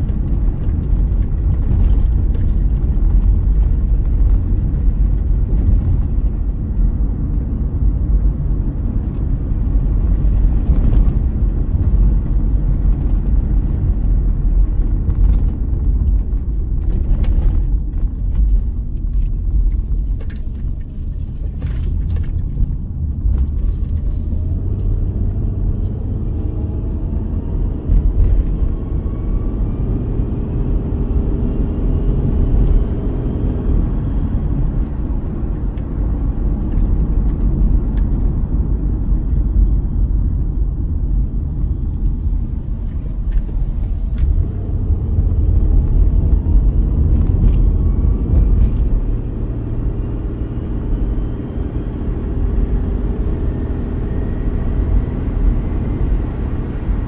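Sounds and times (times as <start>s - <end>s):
rising whine of car: 0.0s - 57.0s
road and engine rumble inside car: 0.0s - 57.0s.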